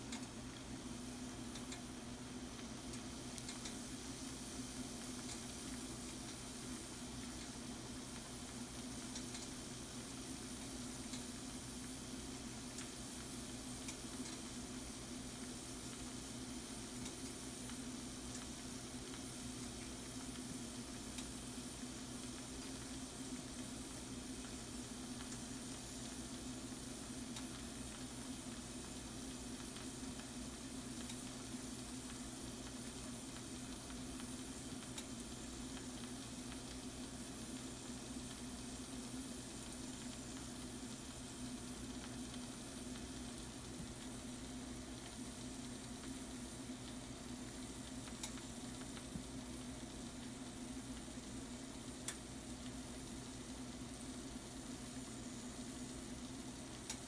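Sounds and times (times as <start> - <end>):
food sizzling in a skillet: 0.0 - 57.0.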